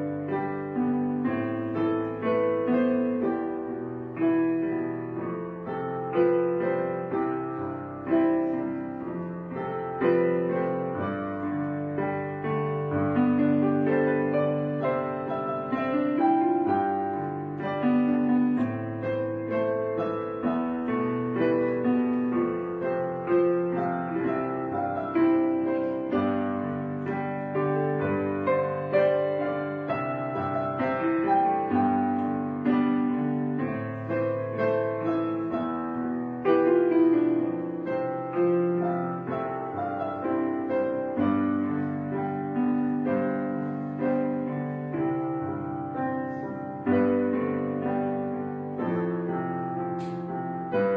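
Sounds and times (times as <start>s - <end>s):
piano music: 0.0s - 50.9s.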